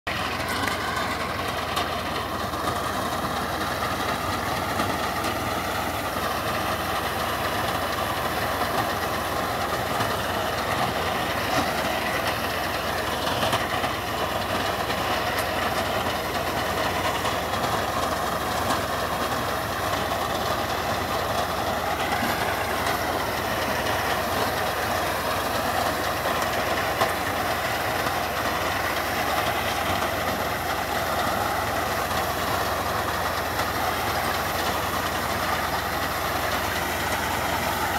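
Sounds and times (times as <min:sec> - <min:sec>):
tractor diesel engine: 0:00.0 - 0:37.9.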